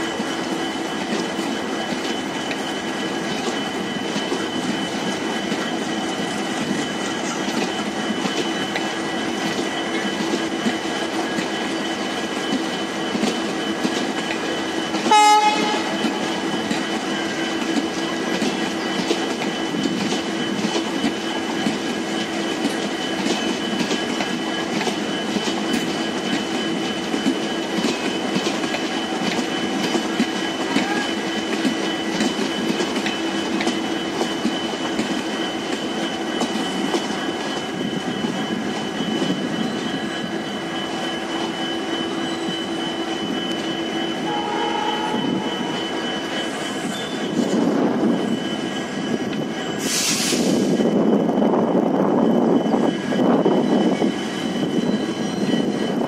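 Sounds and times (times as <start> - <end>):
train wheel rumble: 0.0 - 56.0.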